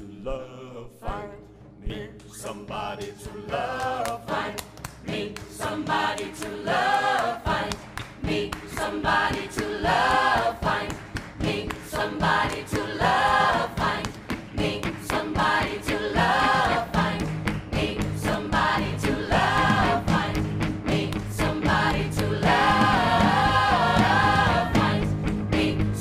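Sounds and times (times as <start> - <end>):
gospel choir singing: 0.0 - 26.0
steady beat: 2.4 - 26.0.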